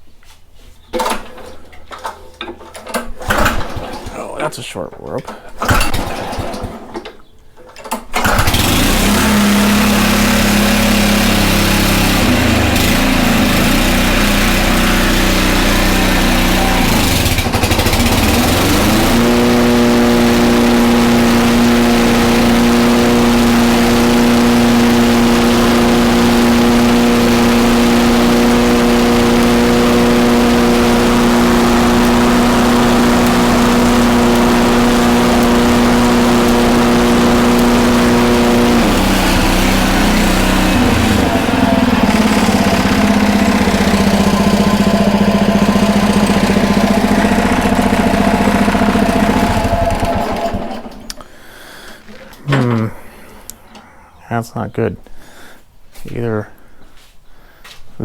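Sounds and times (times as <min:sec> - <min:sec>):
lawn mower engine starting and running: 0:01.0 - 0:53.9.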